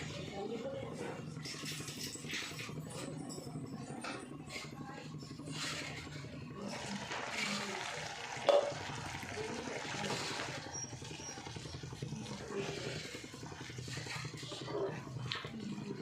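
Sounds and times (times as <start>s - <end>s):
food being worked in a pan: 1.6s - 16.0s.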